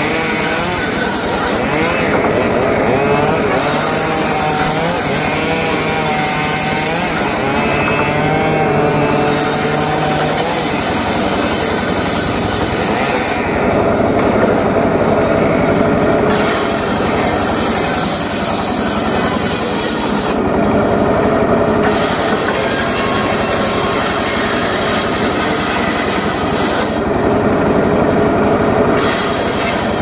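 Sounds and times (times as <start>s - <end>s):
engine-powered saw cutting wood: 0.0s - 30.0s.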